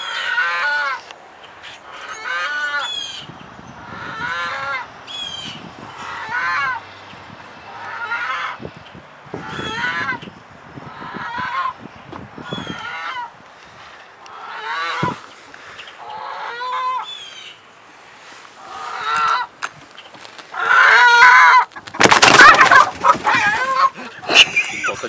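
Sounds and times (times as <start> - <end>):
chickens squawking: 0.0 - 25.0.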